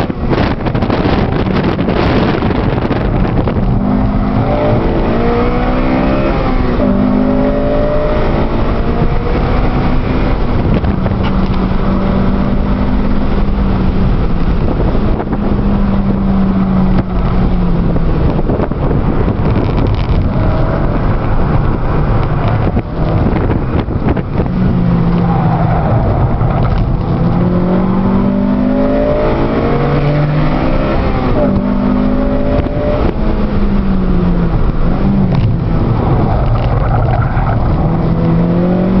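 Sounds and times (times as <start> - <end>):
wind and road noise: 0.0 - 39.0
car engine revving hard: 0.2 - 39.0.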